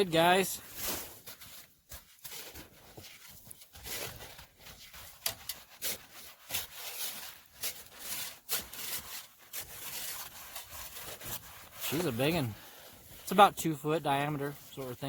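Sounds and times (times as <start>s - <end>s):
scraping and crunching in snow: 0.0s - 15.0s.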